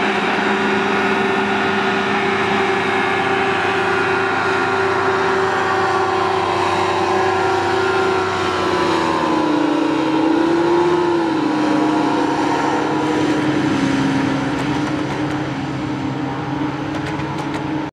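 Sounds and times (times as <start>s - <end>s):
hovercraft engine and fan drone: 0.0s - 17.9s.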